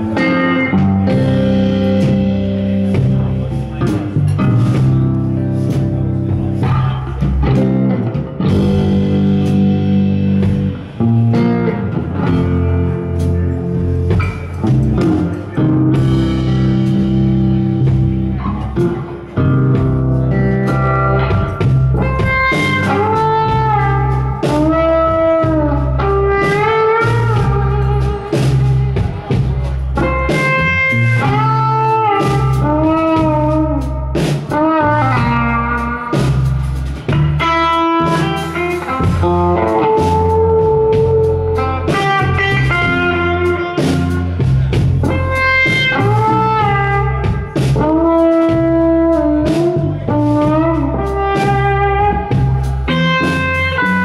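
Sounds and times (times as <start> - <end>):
drums: 0.0 - 54.0
electric bass: 0.0 - 54.0
electric guitar playing blues: 0.0 - 54.0.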